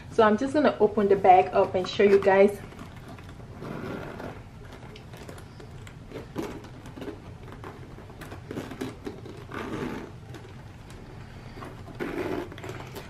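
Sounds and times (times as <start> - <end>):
metal zipper rasping open: 2.0 - 13.0.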